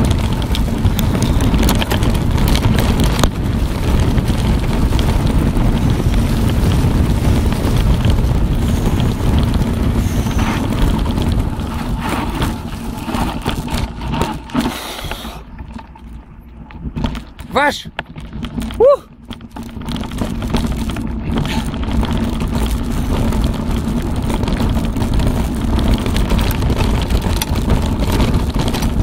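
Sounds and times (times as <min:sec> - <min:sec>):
bike clattering and rattling: 0:00.0 - 0:29.0
wind buffeting microphone: 0:00.0 - 0:29.0.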